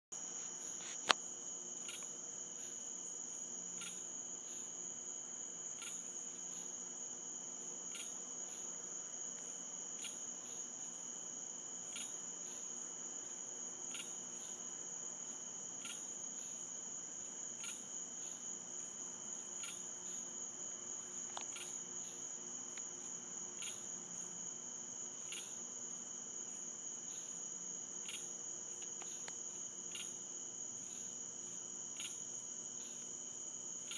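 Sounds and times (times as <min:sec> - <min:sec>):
insect chirps: 0:00.2 - 0:33.9
insects trilling: 0:00.2 - 0:33.9.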